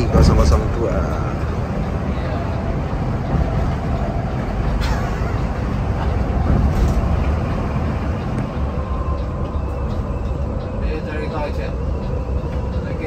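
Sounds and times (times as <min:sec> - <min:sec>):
bus engine and tyre rumble: 0:00.0 - 0:13.0.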